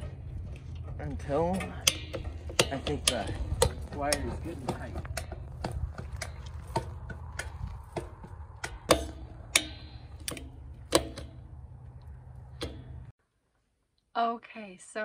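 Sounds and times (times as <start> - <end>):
low steady rumble: 0.0 - 13.2.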